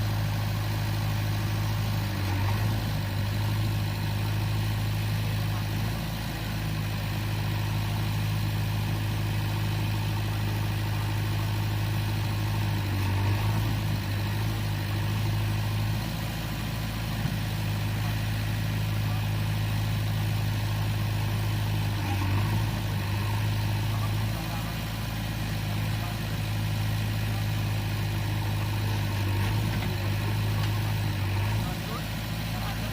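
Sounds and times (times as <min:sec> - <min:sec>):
diesel engine running at low speed: 0:00.0 - 0:32.9.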